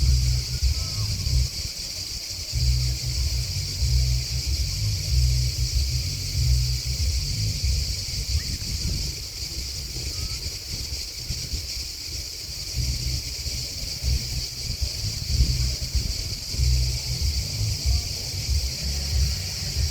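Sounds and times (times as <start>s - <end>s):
crickets and grasshoppers chirping: 0.0s - 19.9s
wind buffeting microphone: 0.0s - 19.9s.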